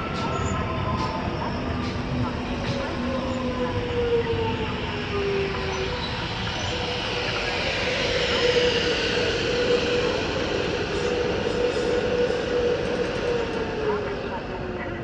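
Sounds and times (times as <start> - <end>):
electric train rumbling past: 0.0 - 15.0
train whine: 0.0 - 15.0.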